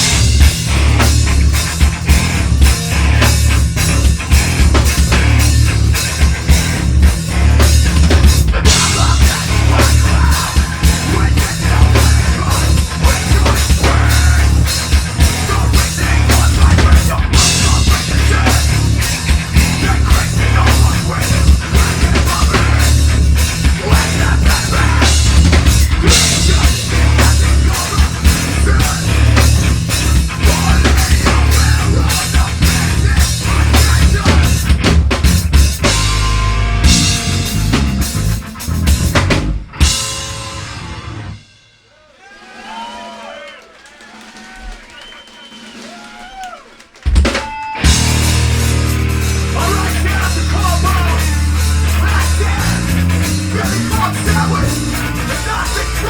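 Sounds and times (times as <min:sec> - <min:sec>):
drum kit hitting hard: 0:00.0 - 0:41.7, 0:47.1 - 0:56.0
heavy metal band playing: 0:00.0 - 0:43.2, 0:46.9 - 0:56.0.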